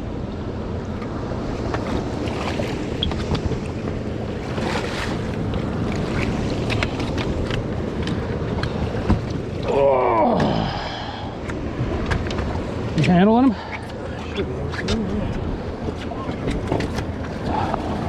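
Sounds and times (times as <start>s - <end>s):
water noise: 0.0s - 18.0s.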